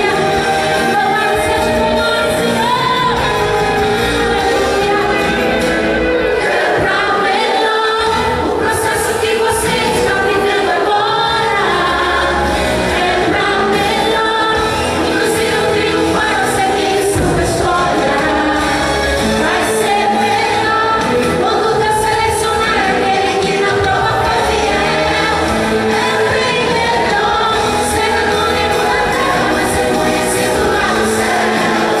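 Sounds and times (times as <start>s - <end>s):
woman singing into microphone: 0.0s - 5.6s, 6.8s - 32.0s
instrumental backing music: 0.0s - 32.0s.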